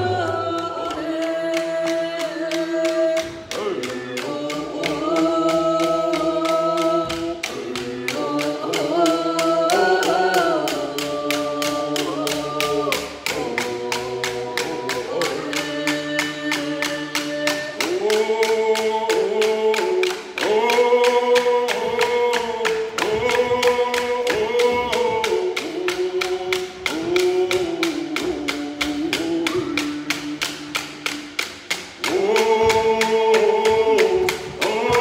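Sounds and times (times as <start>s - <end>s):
group of voices singing: 0.0s - 35.0s
hand drums beating: 0.0s - 35.0s.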